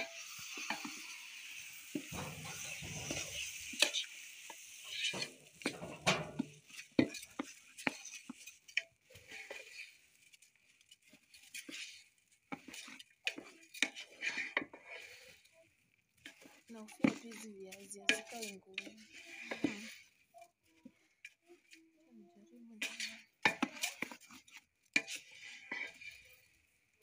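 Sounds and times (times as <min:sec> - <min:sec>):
light sizzle: 0:00.0 - 0:27.0
wooden spoon scraping a pot: 0:00.0 - 0:27.0.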